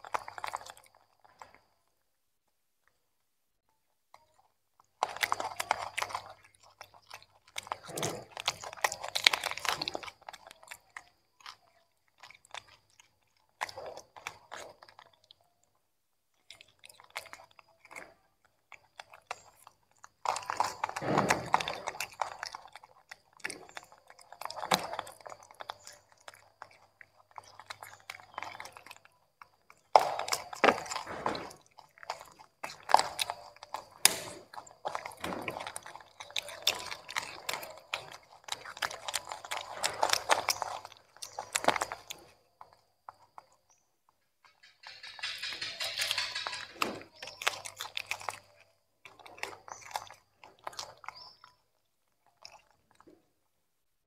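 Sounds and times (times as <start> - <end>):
monkeys crunching vegetables: 0.0 - 2.1, 4.1 - 53.6.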